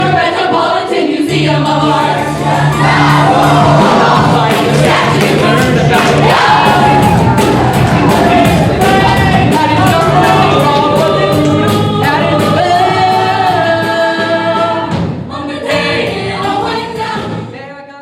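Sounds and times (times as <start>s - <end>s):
group singing over a beat: 0.0s - 17.7s.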